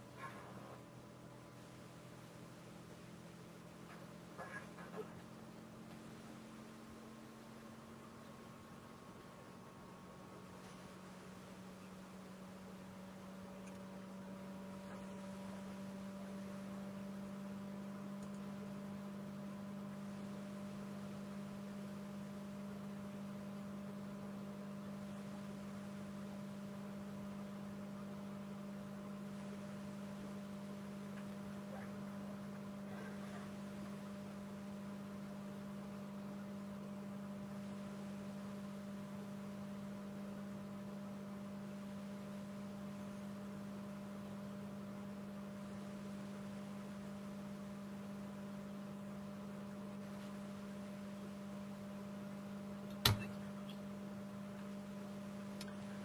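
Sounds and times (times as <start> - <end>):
faint electrical hum: 0.0 - 56.0.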